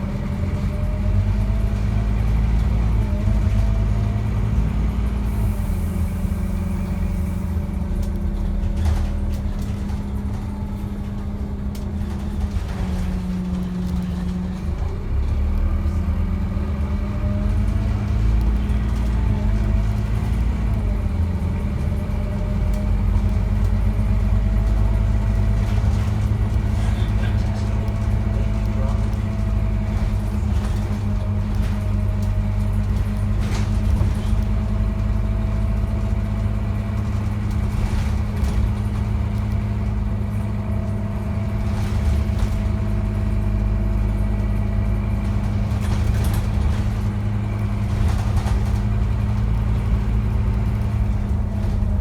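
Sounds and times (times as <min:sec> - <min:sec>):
bus engine drone and whine: 0:00.0 - 0:52.0.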